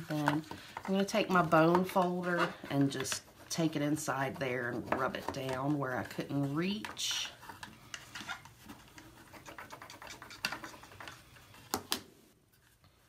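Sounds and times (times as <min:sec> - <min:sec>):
bone folder scraping cardstock: 0:00.0 - 0:11.6.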